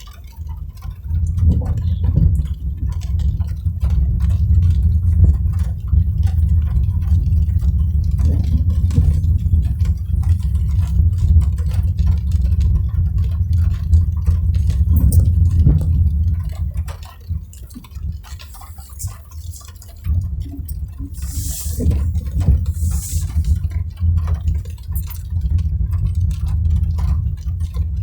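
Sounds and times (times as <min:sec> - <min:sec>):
car road and engine rumble: 0:00.0 - 0:28.0
raindrops tapping on car body: 0:00.0 - 0:28.0.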